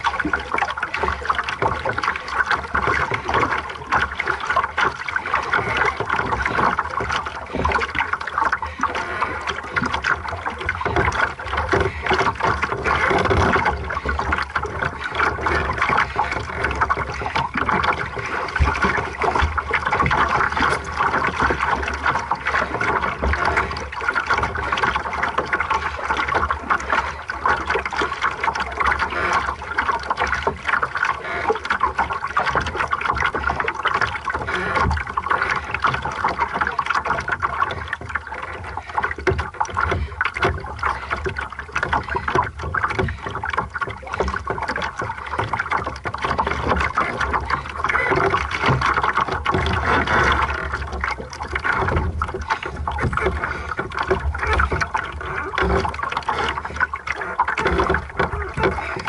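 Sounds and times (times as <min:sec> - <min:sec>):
water splashing against boat hull: 0:00.0 - 0:59.0.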